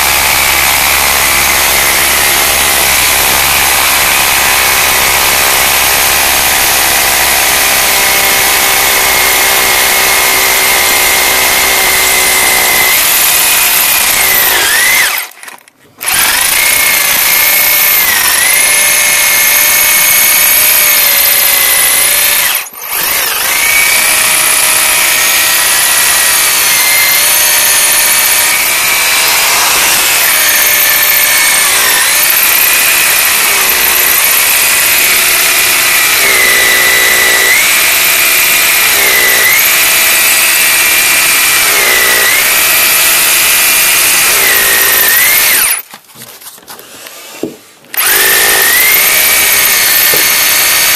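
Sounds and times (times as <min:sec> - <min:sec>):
electric drill boring into concrete: 0:00.0 - 0:45.9, 0:47.0 - 0:50.9.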